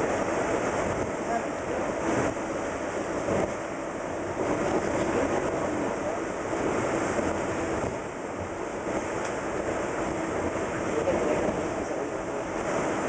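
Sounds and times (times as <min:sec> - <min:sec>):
train car running: 0:00.0 - 0:13.0.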